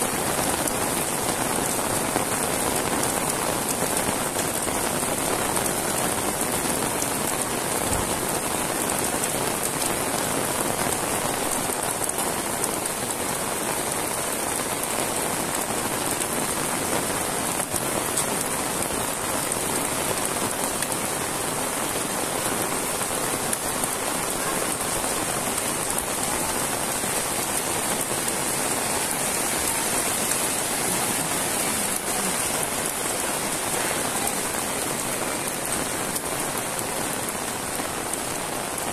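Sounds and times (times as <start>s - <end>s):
heavy rain on a paved road: 0.0s - 38.9s.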